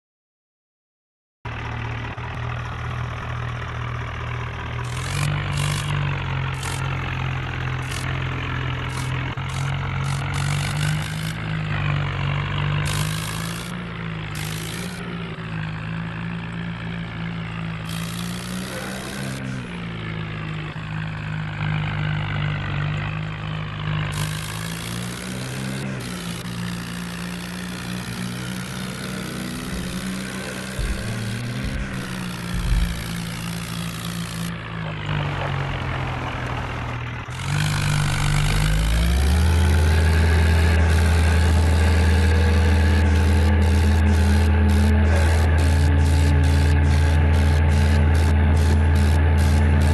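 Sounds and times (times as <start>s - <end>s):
tractor engine running: 1.5s - 49.9s.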